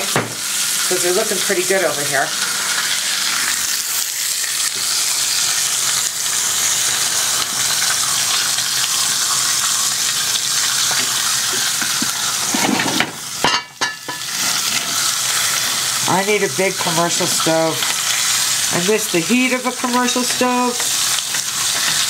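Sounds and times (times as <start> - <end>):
steak searing in grill pan: 0.0 - 22.0
vegetables sizzling in skillet: 0.0 - 22.0.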